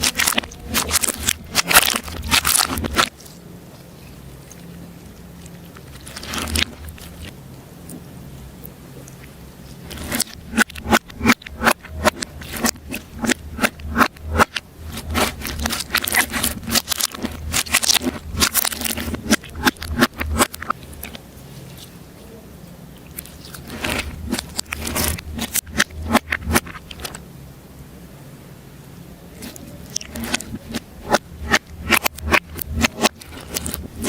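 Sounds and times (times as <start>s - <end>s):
slime clicking and crackling: 0.0s - 22.0s, 22.6s - 27.2s, 29.4s - 34.0s.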